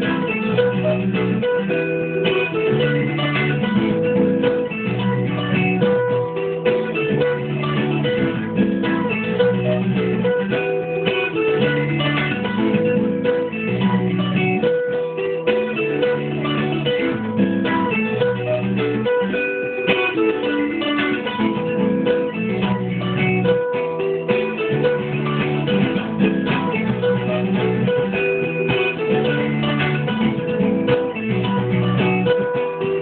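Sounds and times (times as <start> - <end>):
guitar playing: 0.0 - 33.0.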